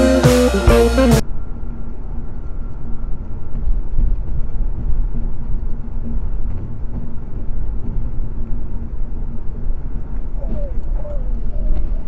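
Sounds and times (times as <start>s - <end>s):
car road and engine rumble: 0.0s - 12.0s
faint steady hum: 0.0s - 12.0s.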